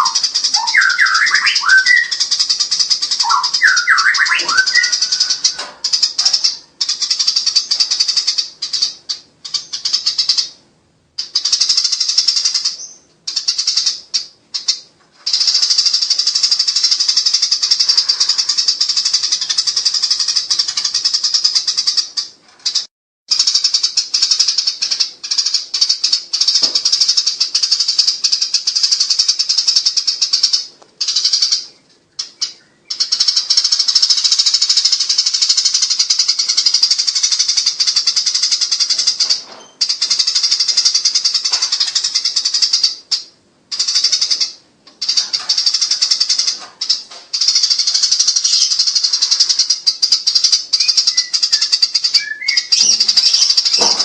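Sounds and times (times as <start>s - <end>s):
sparrows chirping shrilly: 0.0s - 54.0s.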